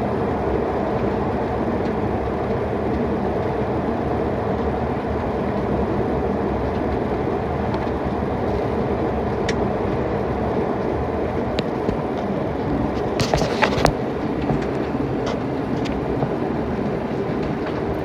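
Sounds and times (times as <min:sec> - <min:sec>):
jet engines: 0:00.0 - 0:18.0.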